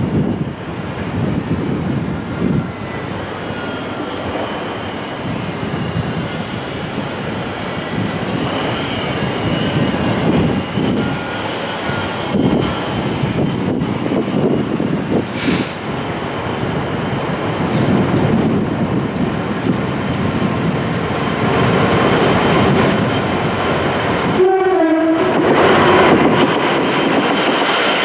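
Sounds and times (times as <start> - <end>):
distant diesel locomotive rumble: 0.0 - 28.0
wind on microphone: 0.0 - 28.0.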